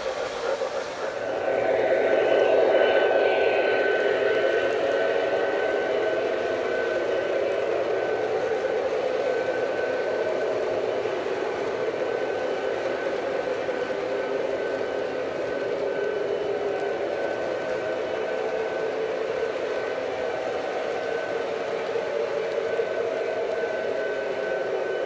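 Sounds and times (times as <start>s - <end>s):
model train wheels rumbling: 0.0s - 25.0s
thin high whine: 0.0s - 25.0s.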